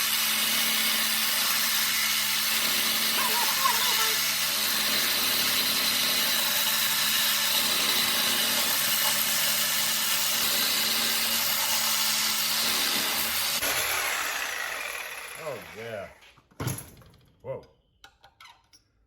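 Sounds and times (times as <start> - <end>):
power saw grinding through metal: 0.0 - 16.2.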